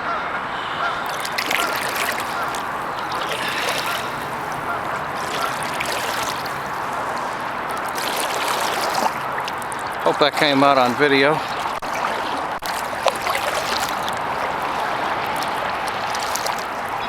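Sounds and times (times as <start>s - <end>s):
paddle water splashing: 0.0s - 17.0s.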